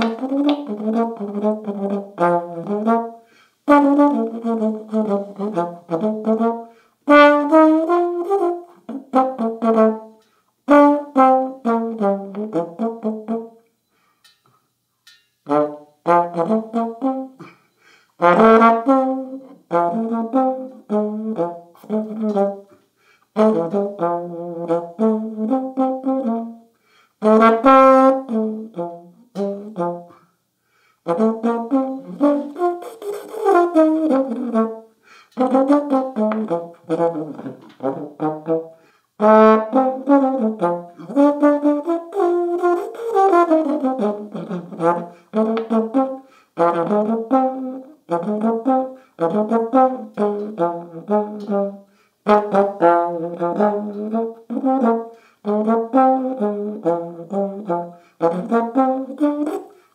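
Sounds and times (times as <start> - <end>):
solo trombone jazz melody: 0.0 - 13.7, 15.4 - 30.4, 31.0 - 59.9.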